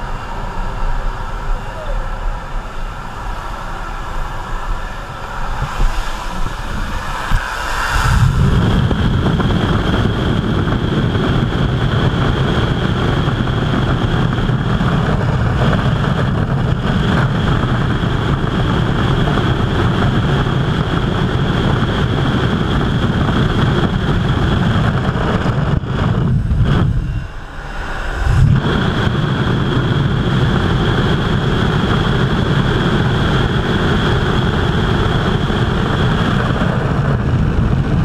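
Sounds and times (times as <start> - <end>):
loud rush of wind: 0.0 - 38.0.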